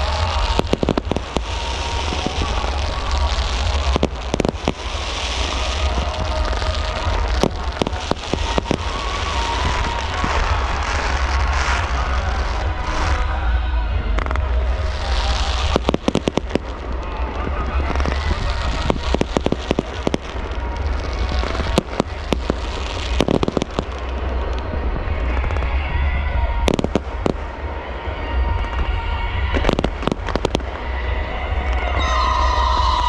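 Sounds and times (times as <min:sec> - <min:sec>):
background music: 0:00.0 - 0:33.0
fireworks bangs and crackling: 0:00.0 - 0:33.0
fireworks hiss and rumble: 0:00.0 - 0:33.0.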